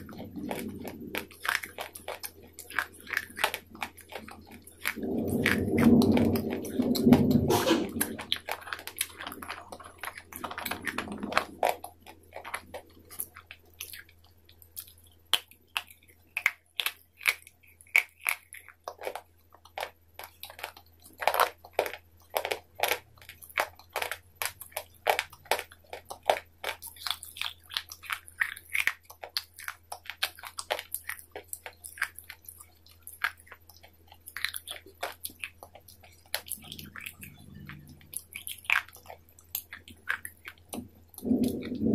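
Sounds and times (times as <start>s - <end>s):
chewing crisp food: 0.0s - 41.9s.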